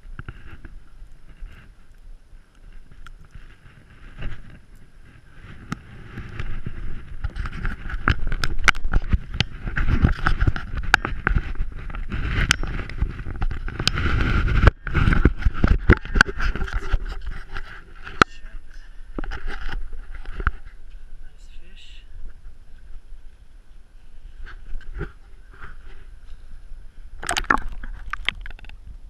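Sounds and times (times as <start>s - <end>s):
microphone handling rustling: 0.0s - 2.0s, 2.6s - 21.2s, 24.2s - 28.8s
wind on microphone: 0.0s - 29.0s.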